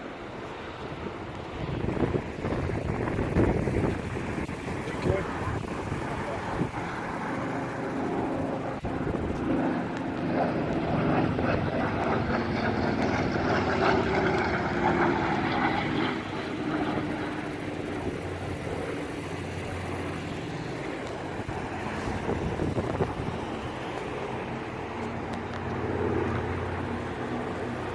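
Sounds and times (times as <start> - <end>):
propeller plane flying past: 0.0 - 27.9.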